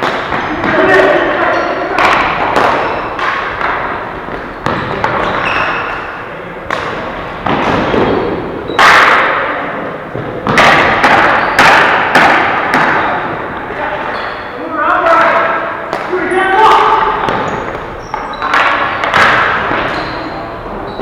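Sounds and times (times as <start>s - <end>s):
sticks hitting ball: 0.0s - 14.2s, 15.4s - 20.2s
ball striking boards: 0.0s - 14.5s, 15.3s - 21.0s.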